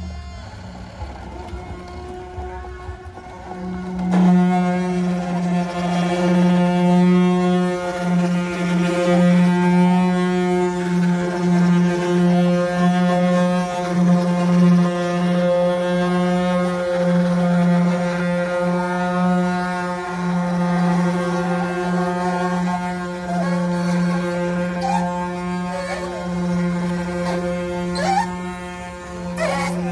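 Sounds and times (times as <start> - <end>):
wooden cart axle whining: 0.0 - 29.9.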